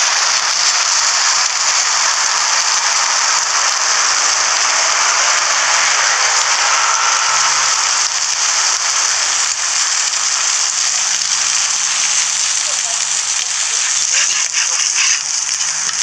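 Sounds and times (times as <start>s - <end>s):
eggs sizzling on a griddle: 0.0s - 16.0s.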